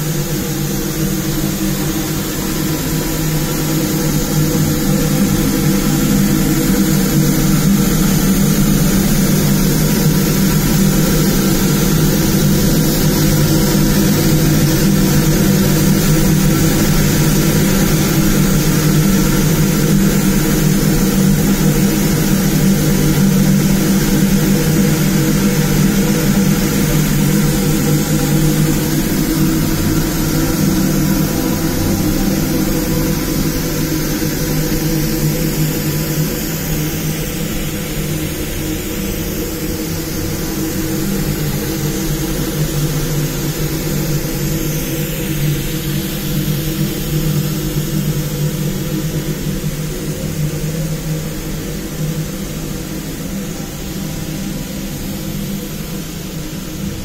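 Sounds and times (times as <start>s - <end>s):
industrial machinery humming: 0.0s - 57.0s
machinery hiss: 0.0s - 57.0s.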